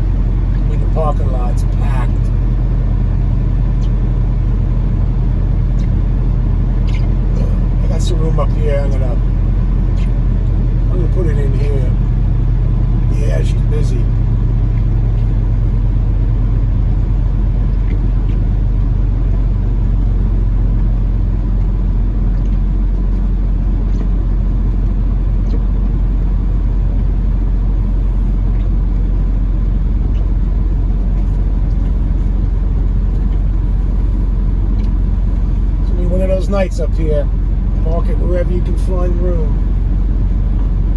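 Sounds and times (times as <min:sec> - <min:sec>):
diesel truck engine running low: 0:00.0 - 0:40.9.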